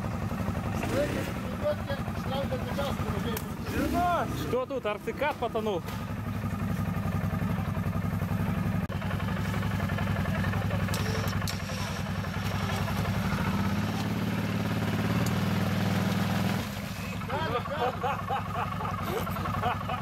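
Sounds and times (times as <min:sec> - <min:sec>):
atv engine running under throttle: 0:00.0 - 0:20.0
wheels churning water and mud: 0:00.0 - 0:20.0.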